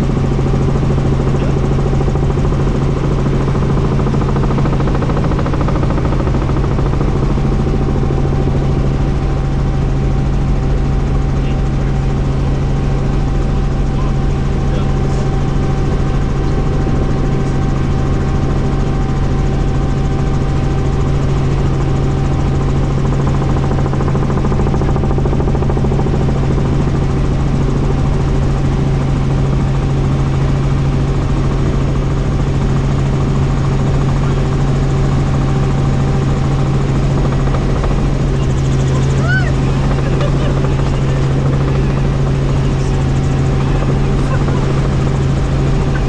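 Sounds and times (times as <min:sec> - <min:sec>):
helicopter engine and rotor drone: 0:00.0 - 0:46.0.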